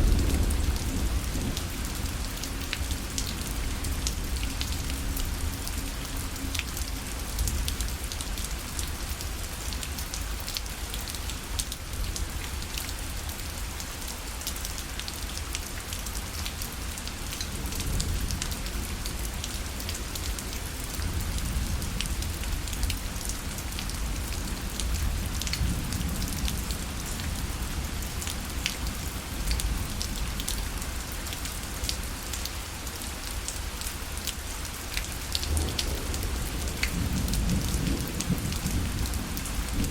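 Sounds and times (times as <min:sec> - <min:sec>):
rain pattering on parasol fabric: 0:00.0 - 0:39.9.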